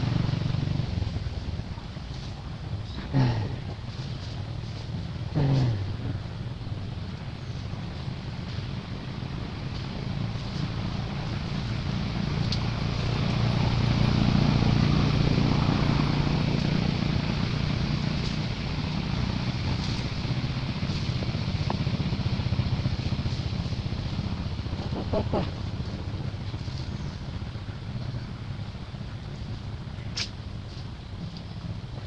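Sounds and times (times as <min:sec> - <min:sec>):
passing vehicle engine hum: 0:00.0 - 0:32.0.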